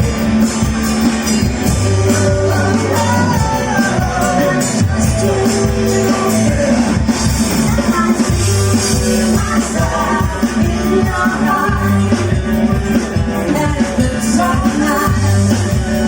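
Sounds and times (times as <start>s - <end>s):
rock band playing: 0.0s - 16.0s
person singing: 1.6s - 16.0s.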